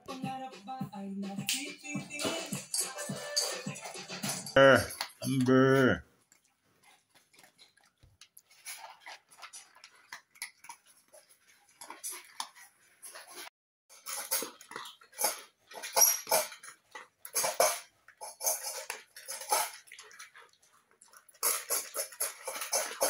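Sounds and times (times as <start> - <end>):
dogs crunching dry kibble: 2.4 - 5.5, 6.2 - 23.0.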